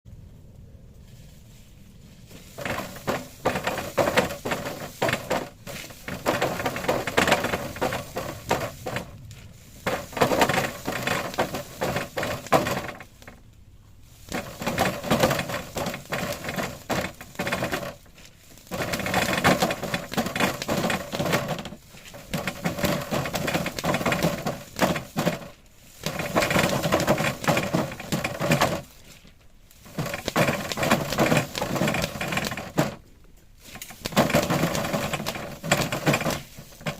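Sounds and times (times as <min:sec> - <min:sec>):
plastic film crinkling: 0:01.8 - 0:36.9.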